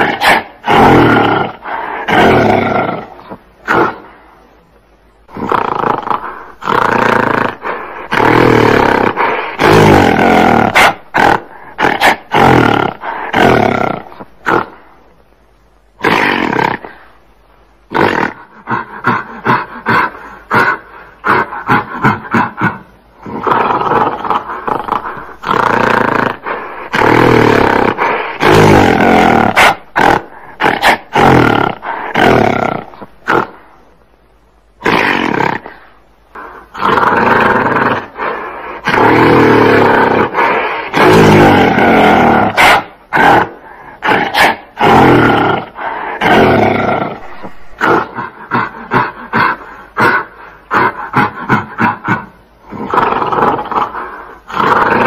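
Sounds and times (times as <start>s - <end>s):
gorilla roaring: 0.0s - 4.1s, 5.3s - 14.8s, 16.0s - 17.1s, 17.9s - 33.6s, 34.8s - 55.0s.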